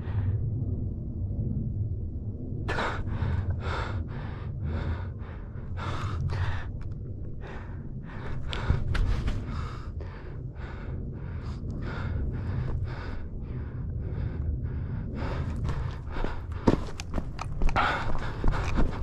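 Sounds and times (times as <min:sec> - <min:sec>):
low rumble on microphone: 0:00.0 - 0:19.0
man breathing heavily: 0:02.7 - 0:19.0.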